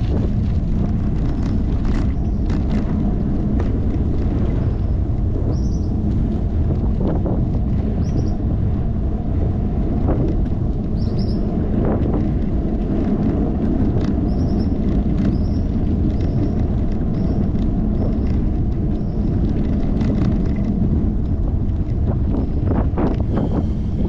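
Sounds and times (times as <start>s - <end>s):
bicycle rattles and clicks: 0.0s - 24.0s
wind buffeting camera: 0.0s - 24.0s.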